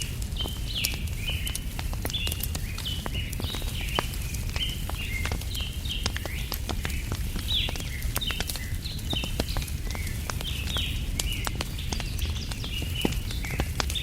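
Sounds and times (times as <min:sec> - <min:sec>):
small birds chirping: 0:00.0 - 0:14.0
wood fire crackling and popping: 0:00.0 - 0:14.0.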